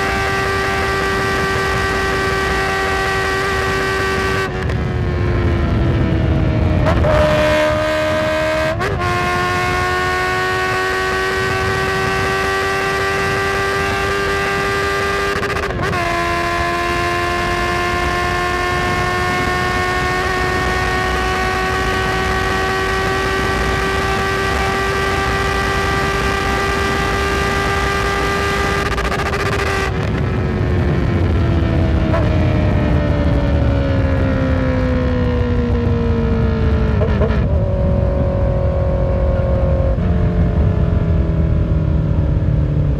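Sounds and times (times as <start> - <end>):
motorcycle engine under way: 0.0 - 42.9.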